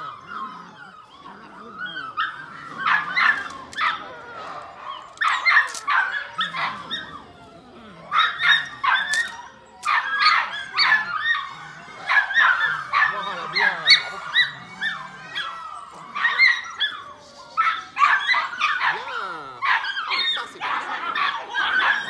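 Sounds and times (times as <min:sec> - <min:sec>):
puppy yapping and whining: 0:00.0 - 0:22.0.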